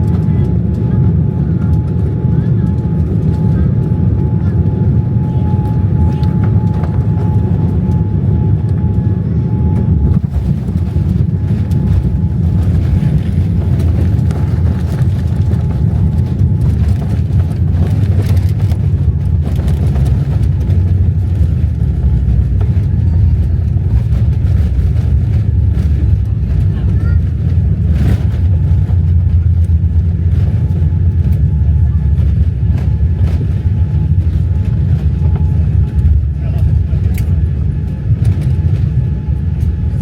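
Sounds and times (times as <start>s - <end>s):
airplane landing rumble: 0.0s - 40.0s.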